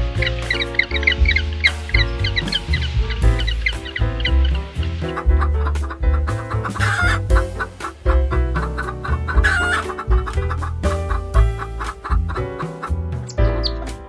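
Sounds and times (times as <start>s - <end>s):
music with heavy bass: 0.0s - 14.0s
chickens clucking: 0.2s - 14.0s.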